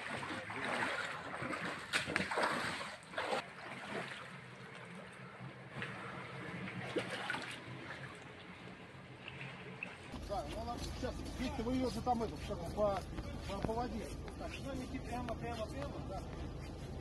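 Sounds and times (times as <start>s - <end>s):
low steady hum: 0.0s - 17.0s
water splashing and trickling: 0.0s - 17.0s.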